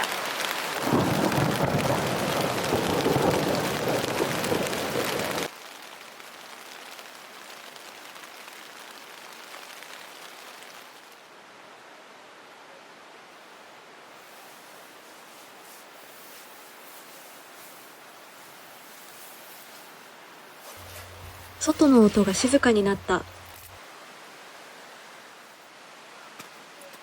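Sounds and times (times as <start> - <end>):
heavy rain pouring: 0.0 - 11.9, 13.3 - 26.7
quiet hiss of rain: 0.0 - 27.0.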